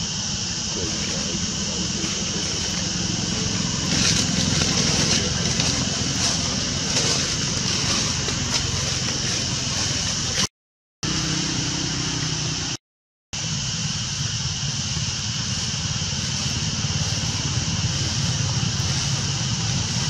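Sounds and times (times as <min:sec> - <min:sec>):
high hiss: 0:00.0 - 0:10.5, 0:13.4 - 0:20.0
low motor rumble: 0:00.0 - 0:12.8, 0:13.4 - 0:20.0.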